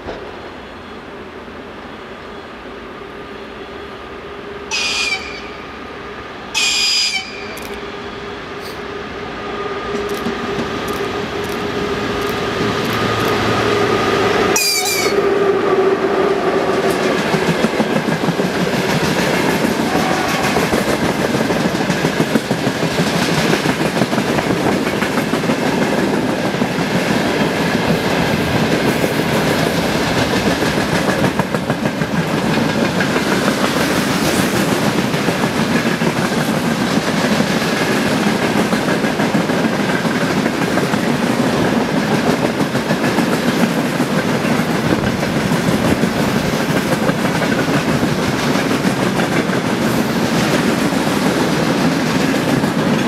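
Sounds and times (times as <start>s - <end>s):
train wheels clicking over rails: 9.8s - 53.0s.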